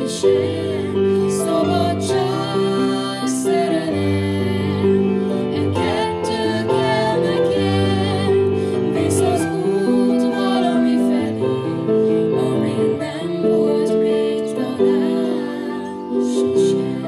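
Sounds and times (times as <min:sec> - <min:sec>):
piano accompaniment: 0:00.0 - 0:17.0
woman and man singing: 0:00.0 - 0:17.0.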